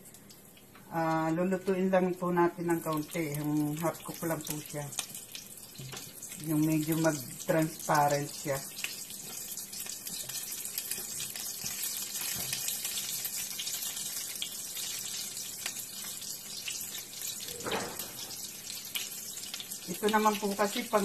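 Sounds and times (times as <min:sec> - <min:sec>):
onion rings sizzling in oil: 0:02.3 - 0:21.0.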